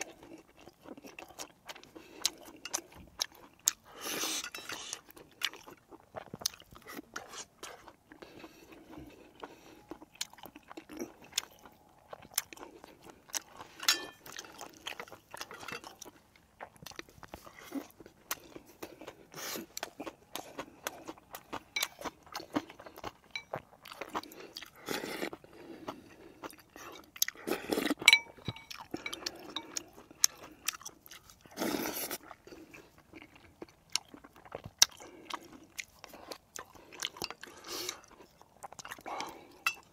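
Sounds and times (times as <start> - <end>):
person chewing and crunching: 0.0 - 39.9.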